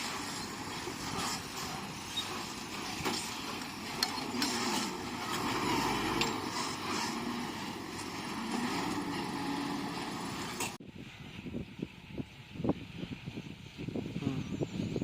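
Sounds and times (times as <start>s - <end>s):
bulldozer diesel engine running: 0.0s - 13.8s.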